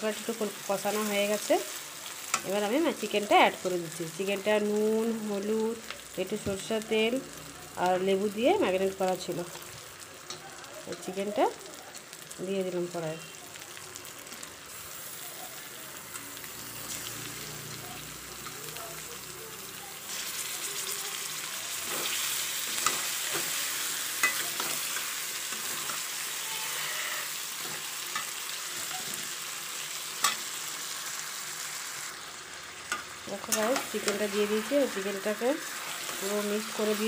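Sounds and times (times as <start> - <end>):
chicken sizzling in a pan: 0.0 - 37.0.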